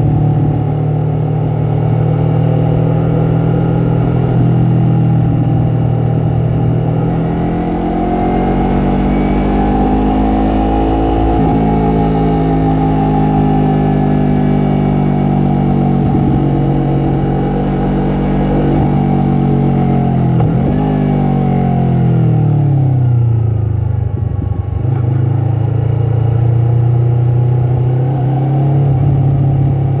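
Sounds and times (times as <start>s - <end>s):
motorcycle engine and exhaust: 0.0s - 30.0s.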